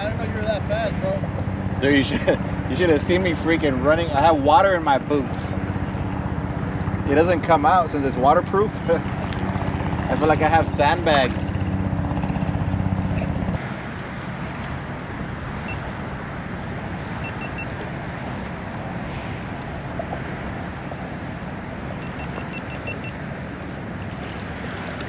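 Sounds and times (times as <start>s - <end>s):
choppy water: 0.0s - 25.0s
low engine drone: 0.0s - 25.0s
wind: 0.0s - 25.0s.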